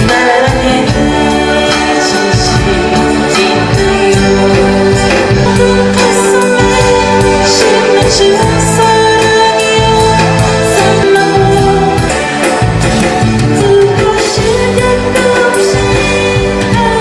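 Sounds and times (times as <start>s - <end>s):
music with singing and beat: 0.0s - 17.0s.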